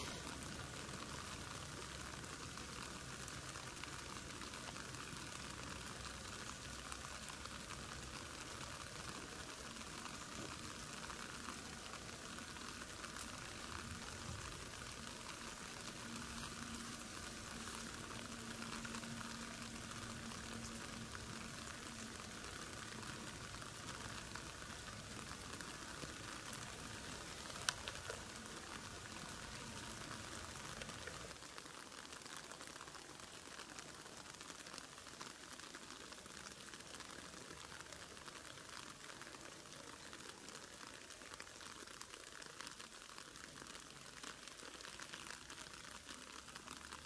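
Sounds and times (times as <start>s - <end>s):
crackling hiss: 0.0s - 47.0s.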